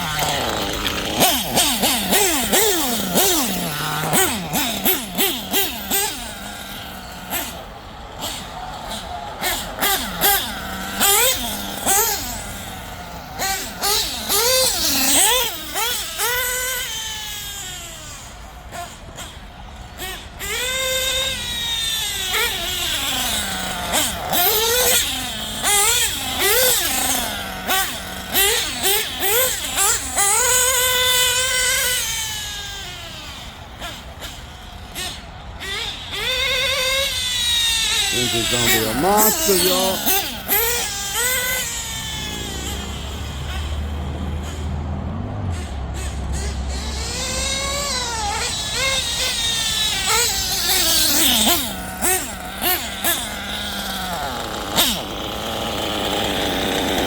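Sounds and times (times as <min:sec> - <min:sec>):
small nitro engine revving: 0:00.0 - 0:57.0.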